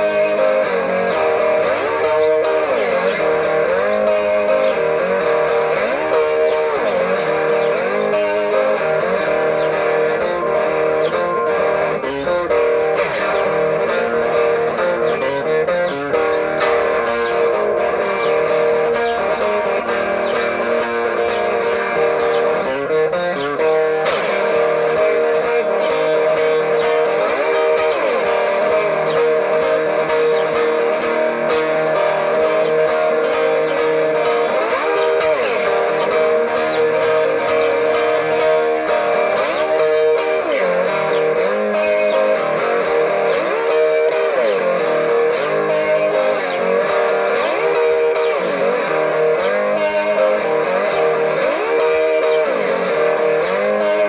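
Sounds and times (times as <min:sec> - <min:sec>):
electric guitar country break: 0:00.0 - 0:54.0.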